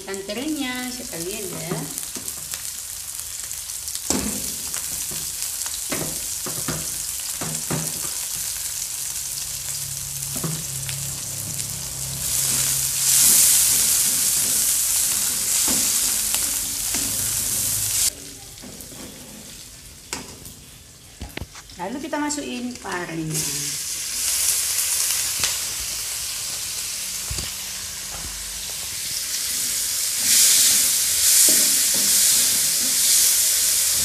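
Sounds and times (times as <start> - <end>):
food sizzling in oil: 0.0 - 34.0.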